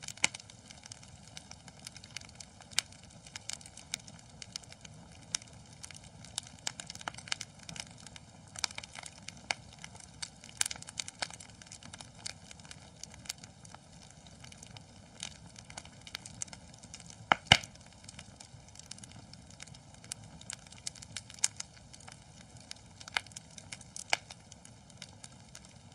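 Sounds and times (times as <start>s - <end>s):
low steady hiss: 0.0s - 25.9s
wood fire crackling: 0.0s - 25.9s.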